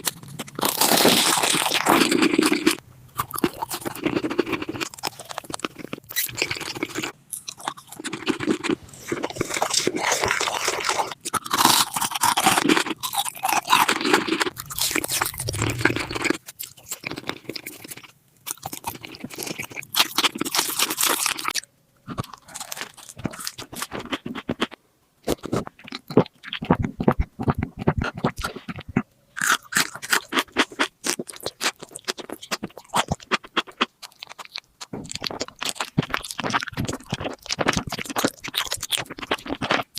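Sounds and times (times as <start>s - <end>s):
crunching and chewing crisp food: 0.0s - 39.9s.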